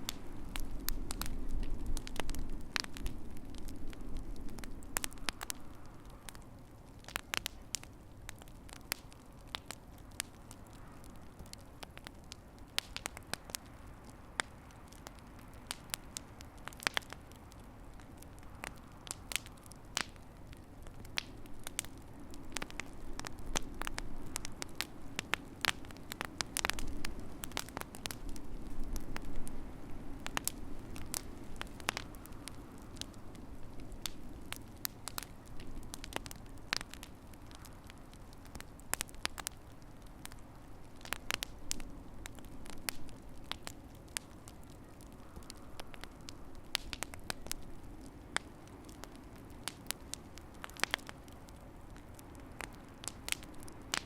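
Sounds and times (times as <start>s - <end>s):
fire crackling and popping: 0.0s - 54.0s
low rush of flame: 0.0s - 54.0s.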